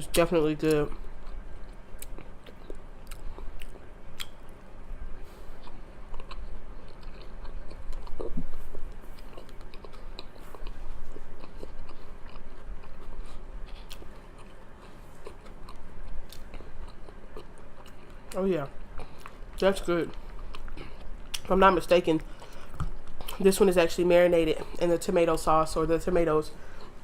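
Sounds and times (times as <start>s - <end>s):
person chewing food: 0.6s - 23.6s, 24.4s - 25.0s, 26.6s - 27.0s.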